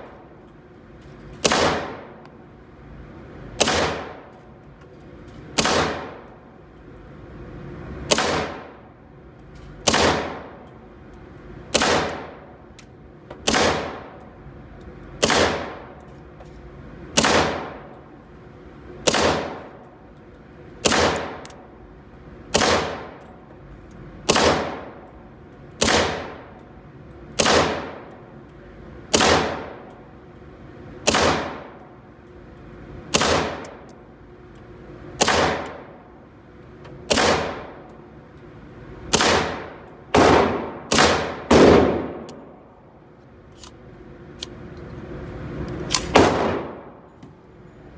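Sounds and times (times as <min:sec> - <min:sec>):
rifle shots echoing indoors: 0:00.0 - 0:04.6, 0:05.2 - 0:16.2, 0:16.8 - 0:23.4, 0:24.1 - 0:36.4, 0:37.0 - 0:38.3, 0:39.0 - 0:42.8, 0:45.9 - 0:47.2.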